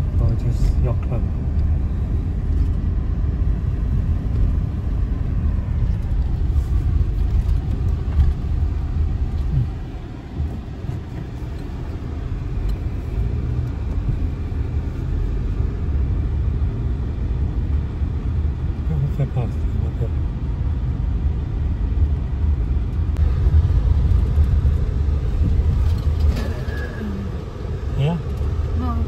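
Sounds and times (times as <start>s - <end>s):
road and engine rumble in car: 0.0s - 29.0s.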